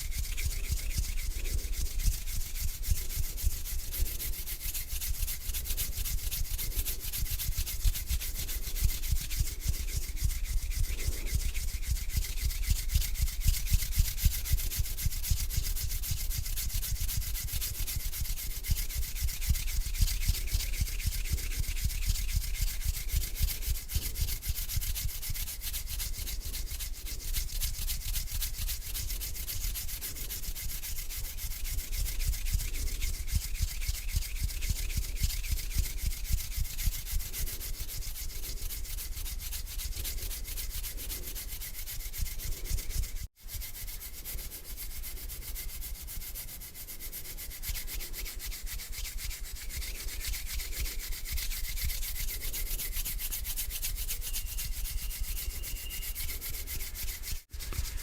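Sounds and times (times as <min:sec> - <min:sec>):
hands rubbing together: 0:00.0 - 0:58.0.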